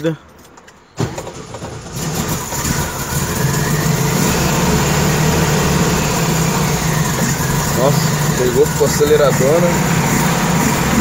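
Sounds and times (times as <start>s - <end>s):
car engine starting and fast idling: 1.0s - 11.0s.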